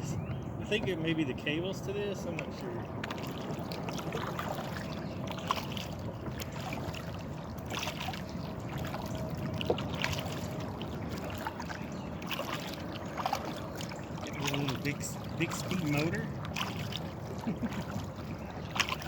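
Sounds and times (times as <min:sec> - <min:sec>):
water along kayak hull: 0:00.0 - 0:19.0.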